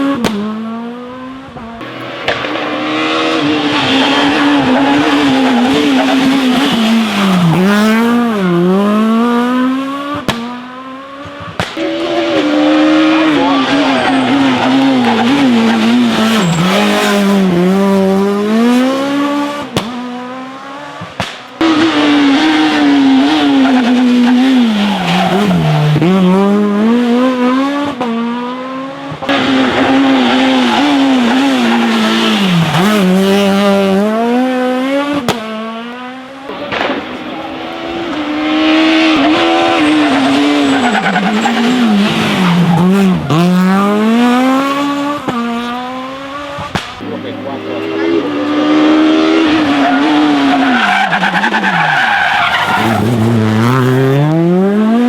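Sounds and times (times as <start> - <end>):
rally car engines accelerating: 0.0 - 55.0.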